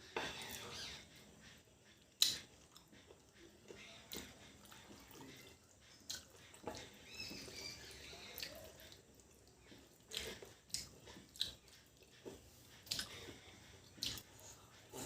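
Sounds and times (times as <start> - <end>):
person eating and chewing: 0.1 - 15.0.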